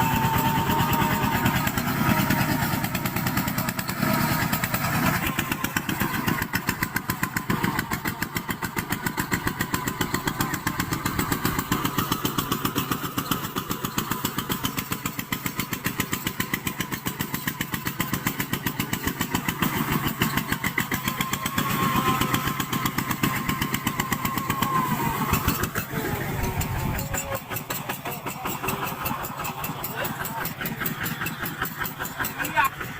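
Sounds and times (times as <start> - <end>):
tractor diesel engine chugging: 0.0 - 32.9.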